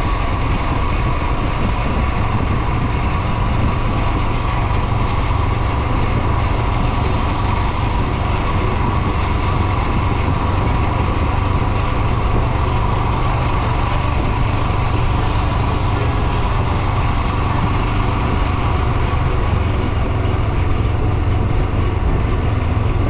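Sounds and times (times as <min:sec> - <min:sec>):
motorcycle engine rumbling: 0:00.0 - 0:23.0
road noise: 0:00.0 - 0:23.0.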